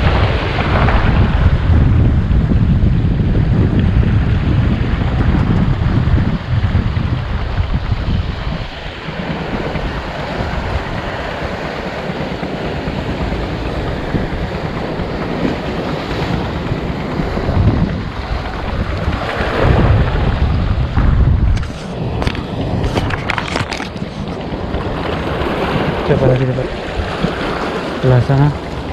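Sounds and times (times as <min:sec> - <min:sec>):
sea waves against breakwater: 0:00.0 - 0:28.9
wind buffeting microphone: 0:00.0 - 0:28.9.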